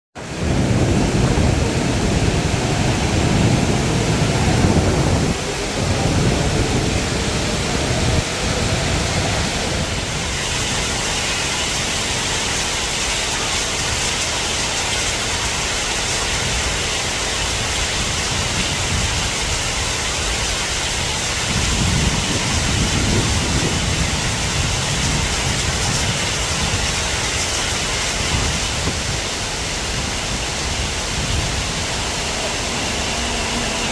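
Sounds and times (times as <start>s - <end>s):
heavy rain hissing: 0.2s - 33.9s
train rumbling: 0.2s - 33.9s.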